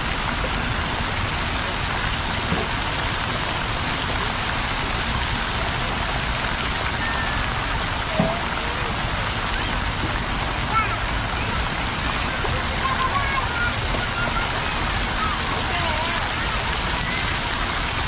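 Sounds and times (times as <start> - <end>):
fountain water splashing into pool: 0.0 - 18.0.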